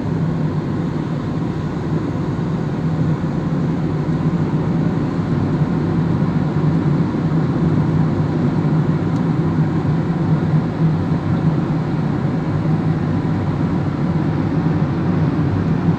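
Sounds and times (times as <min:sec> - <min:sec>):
car engine and road noise: 0:00.0 - 0:15.9.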